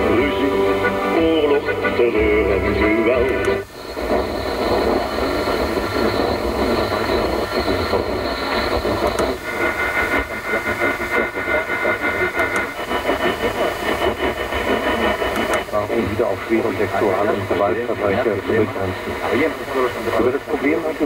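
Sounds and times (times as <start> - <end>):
interference whistles: 0.0 - 21.0
radio static hiss and crackle: 0.0 - 21.0.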